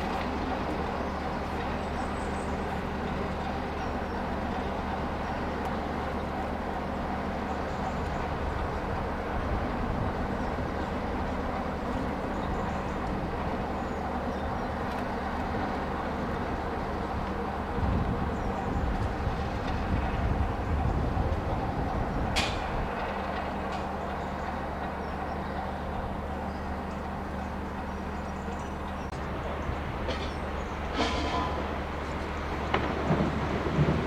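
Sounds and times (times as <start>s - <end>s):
diesel locomotive engine running: 0.0s - 34.0s.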